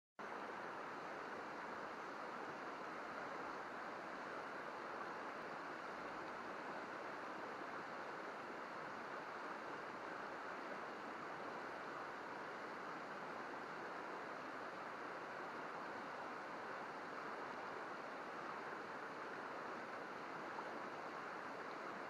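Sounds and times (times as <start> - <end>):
river babbling over rocks: 0.2 - 22.0.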